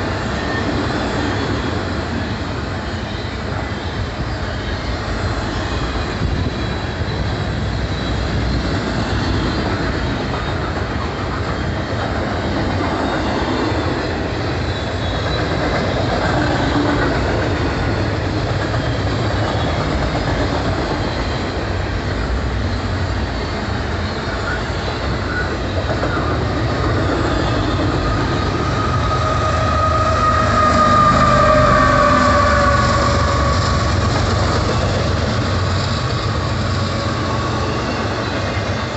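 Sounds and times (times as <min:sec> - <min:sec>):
freight train wheels rumbling on rail: 0:00.0 - 0:38.9
locomotive high whine: 0:00.0 - 0:38.9.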